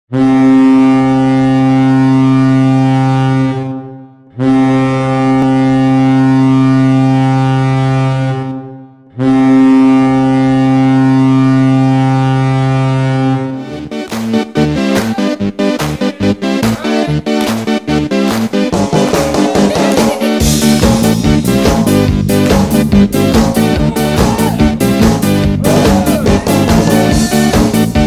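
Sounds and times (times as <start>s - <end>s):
deep goal horn blasts: 0.1s - 28.0s.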